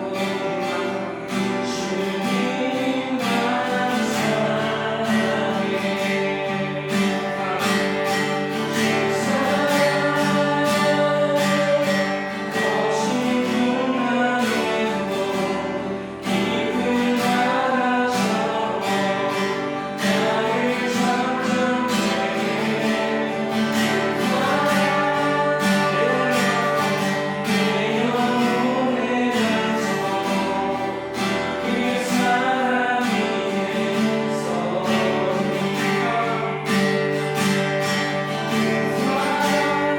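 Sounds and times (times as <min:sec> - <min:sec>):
group singing worship song: 0:00.0 - 0:39.9
strummed acoustic guitar: 0:00.0 - 0:39.9.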